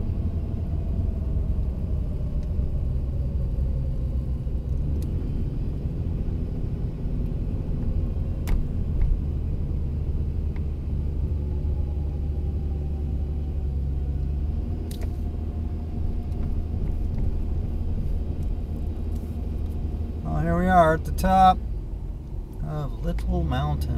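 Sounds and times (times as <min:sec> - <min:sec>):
engine and tyre rumble: 0:00.0 - 0:23.9.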